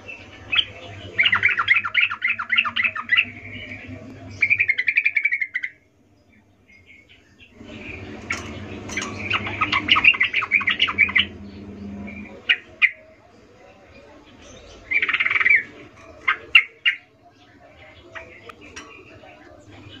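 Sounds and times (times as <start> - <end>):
bird chattering song: 0.0 - 20.0
faint low hum: 0.0 - 20.0.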